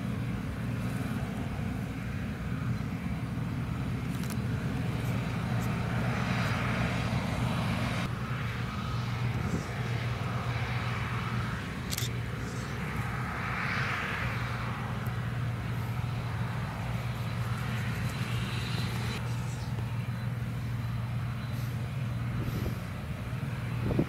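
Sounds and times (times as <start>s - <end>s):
combine harvester diesel drone: 0.0s - 24.0s.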